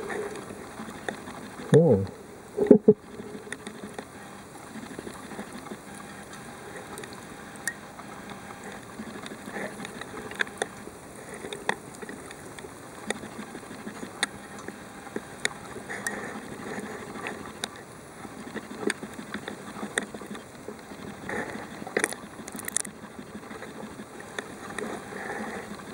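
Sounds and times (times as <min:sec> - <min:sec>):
sharp underwater clicks and crackles: 0:00.0 - 0:25.9.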